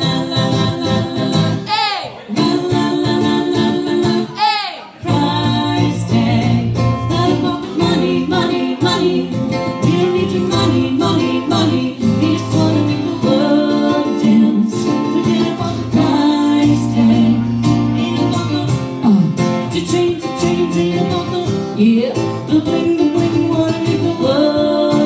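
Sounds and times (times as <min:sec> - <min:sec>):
woman singing into microphone: 0:00.0 - 0:25.0.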